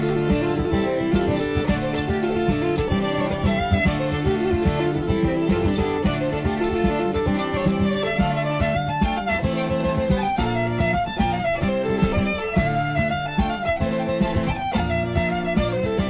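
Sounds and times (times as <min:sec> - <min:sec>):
fiddle melody: 0:00.0 - 0:16.0
strummed acoustic guitar: 0:00.0 - 0:16.0.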